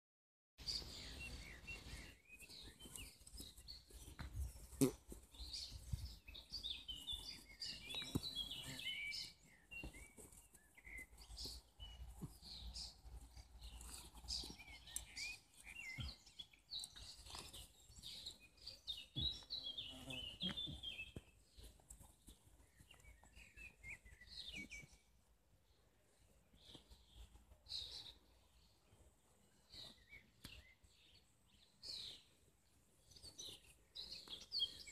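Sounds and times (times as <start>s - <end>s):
small birds chirping: 0.6s - 34.9s.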